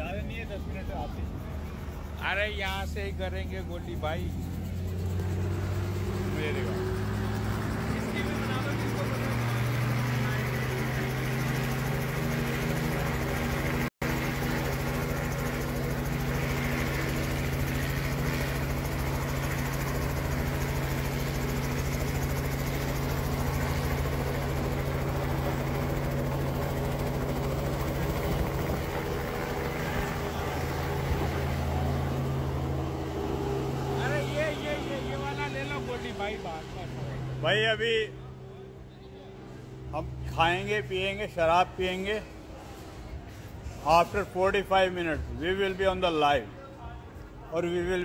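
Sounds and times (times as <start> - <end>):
helicopter engine and rotor drone: 0.0 - 48.0.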